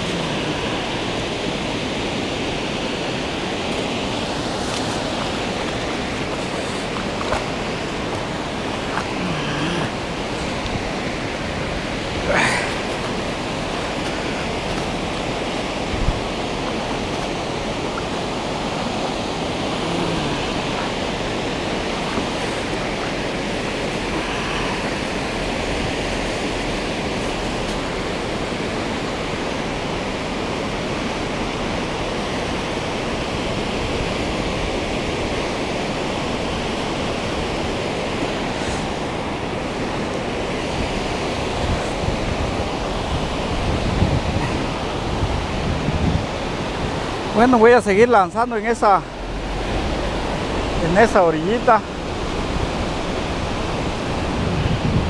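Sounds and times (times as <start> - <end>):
river current rushing: 0.0 - 55.0.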